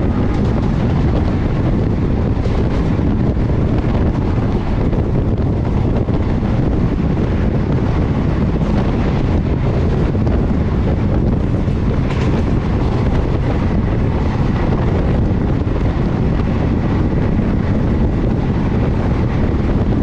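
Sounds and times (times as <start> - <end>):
train rushing at speed: 0.0 - 20.0
wind buffeting microphone: 0.0 - 20.0.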